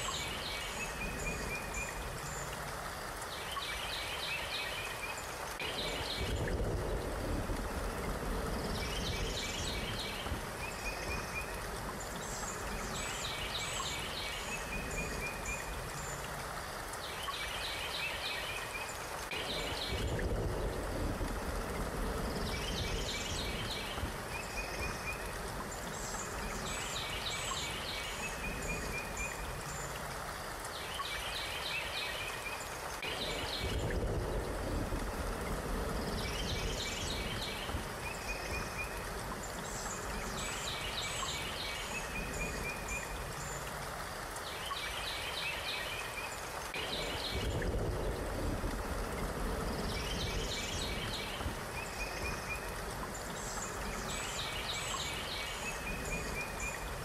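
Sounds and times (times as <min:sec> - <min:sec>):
steady rushing hiss: 0:00.0 - 0:57.0.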